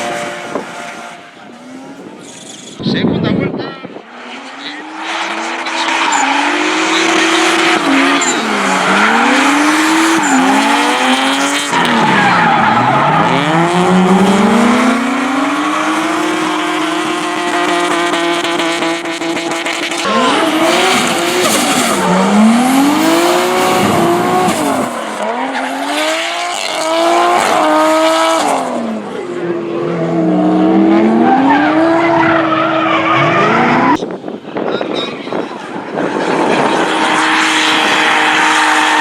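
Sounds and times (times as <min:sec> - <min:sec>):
car engine revving hard: 0:04.2 - 0:34.0, 0:36.0 - 0:39.0.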